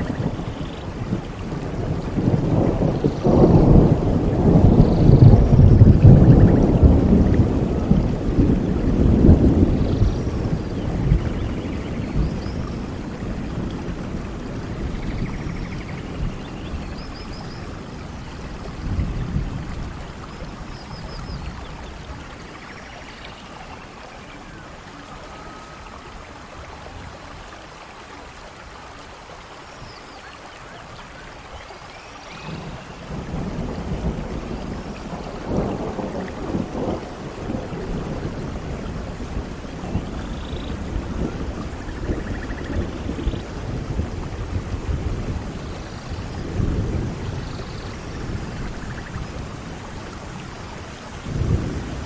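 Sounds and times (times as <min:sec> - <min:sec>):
rolling thunder: 0:00.0 - 0:22.9, 0:32.3 - 0:52.0
steady rain: 0:00.0 - 0:52.0.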